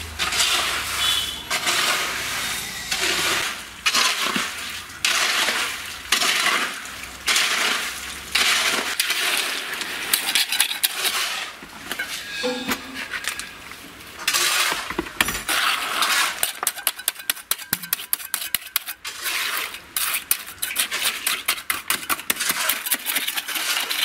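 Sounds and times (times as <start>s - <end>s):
tool scraping wet mortar: 0.0s - 24.0s.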